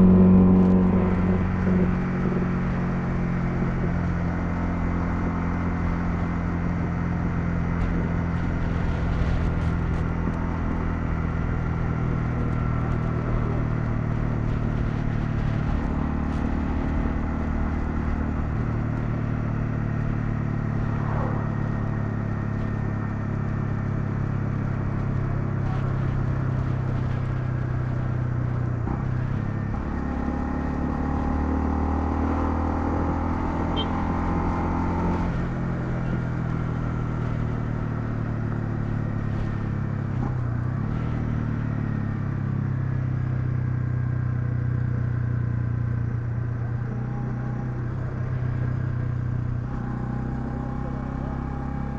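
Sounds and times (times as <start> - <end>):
motorcycle engine running: 0.0 - 51.9
road rush: 0.0 - 51.9.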